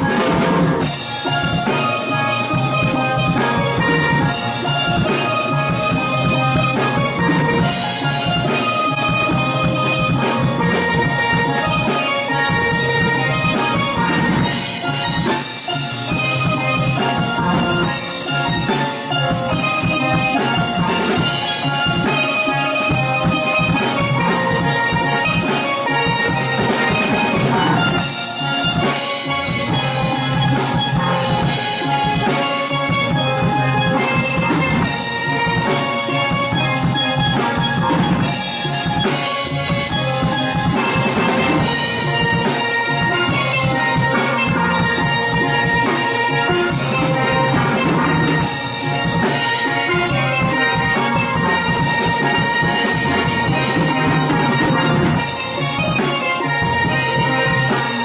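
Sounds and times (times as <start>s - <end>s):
drum kit beat: 0.0s - 58.0s
steel pan ensemble playing: 0.0s - 58.0s.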